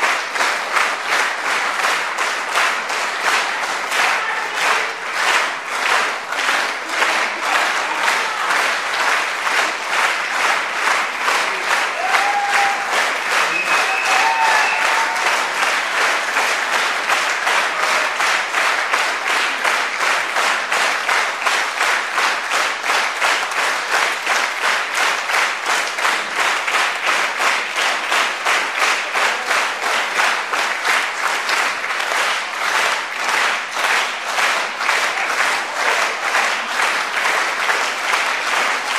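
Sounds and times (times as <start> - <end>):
audience clapping in unison: 0.0 - 38.9.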